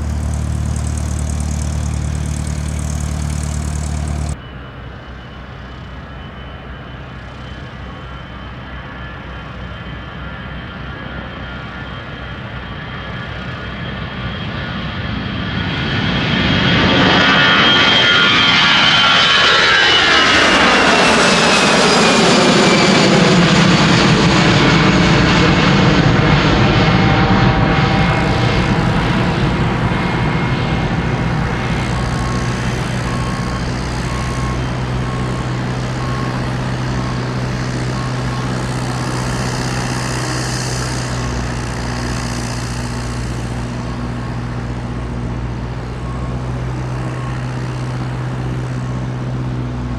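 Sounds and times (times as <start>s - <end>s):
jet aircraft passing: 0.0s - 49.9s.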